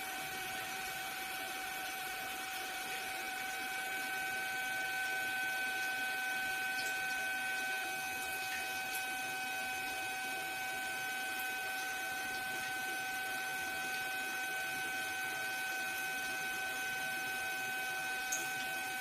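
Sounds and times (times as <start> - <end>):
steady machine whine: 0.0 - 19.0.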